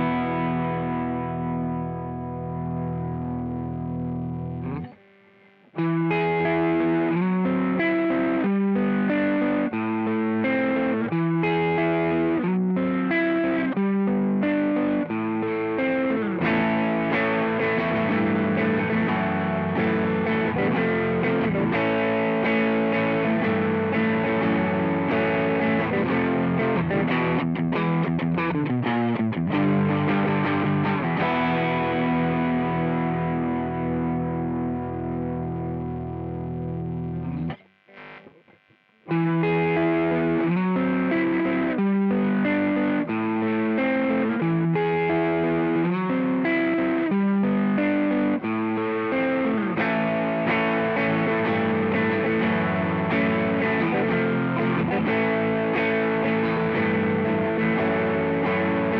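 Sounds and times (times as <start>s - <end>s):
overdriven electric guitar: 0.0s - 58.9s.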